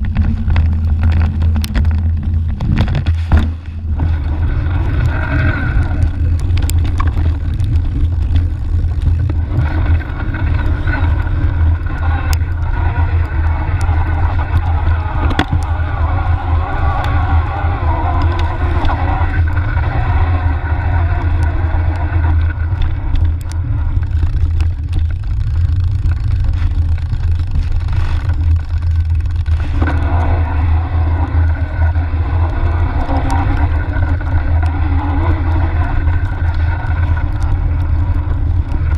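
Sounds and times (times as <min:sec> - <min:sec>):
bike tyres rumbling on dirt: 0:00.0 - 0:38.9
wind on microphone: 0:00.0 - 0:38.9.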